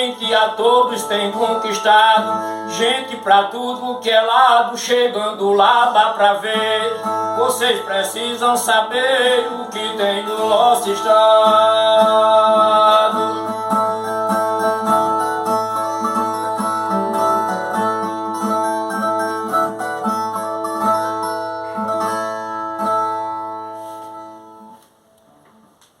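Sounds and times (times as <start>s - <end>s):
strummed viola: 0.0s - 24.8s.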